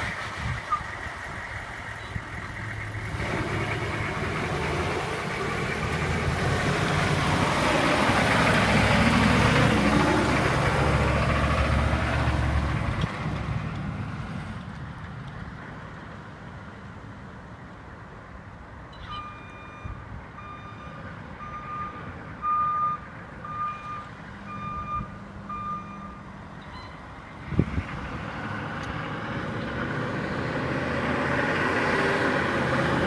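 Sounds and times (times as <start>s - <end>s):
diesel truck driving by: 0.0s - 33.0s.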